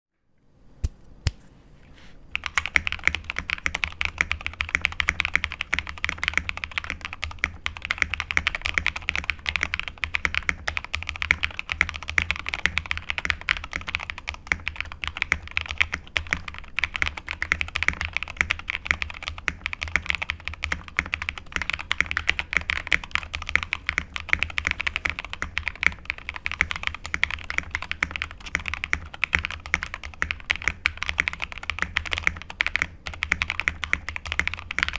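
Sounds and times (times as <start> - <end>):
mechanical keyboard typing: 2.4 - 34.9.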